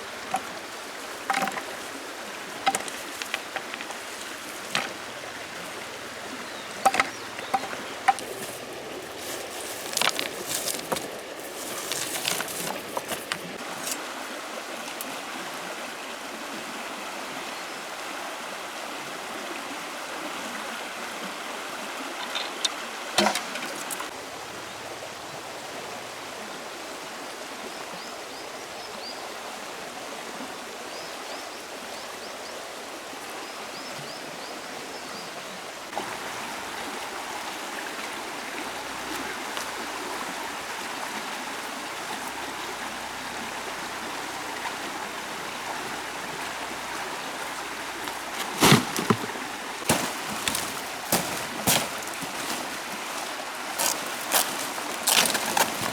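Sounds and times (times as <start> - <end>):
stream flowing: 0.0 - 55.9.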